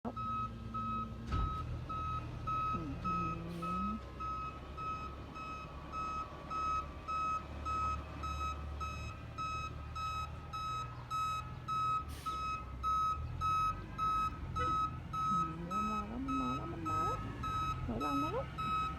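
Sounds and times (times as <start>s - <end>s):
truck engine running: 0.0s - 18.9s
reversing alarm beeping: 0.1s - 18.9s.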